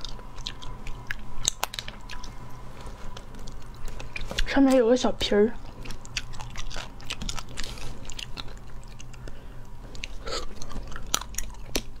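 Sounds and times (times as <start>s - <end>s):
close chewing and mouth sounds: 0.0s - 12.0s.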